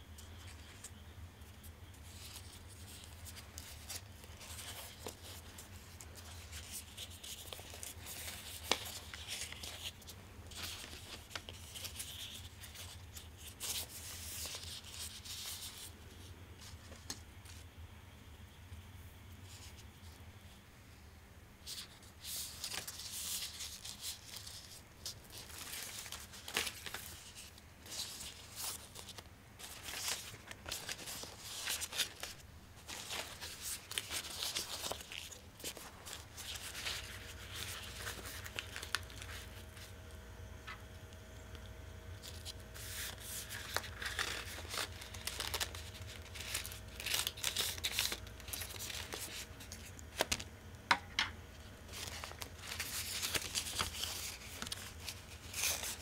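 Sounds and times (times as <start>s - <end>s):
faint steady hum: 0.0s - 56.0s
bamboo leaves rustling and crinkling: 0.2s - 17.6s, 21.6s - 40.0s, 42.2s - 50.4s, 51.9s - 56.0s.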